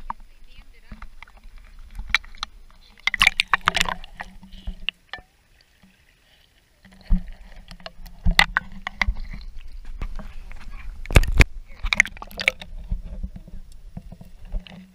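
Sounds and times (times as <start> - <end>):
muffled underwater hush: 0.0 - 14.9
water splashing and sloshing: 0.0 - 14.9.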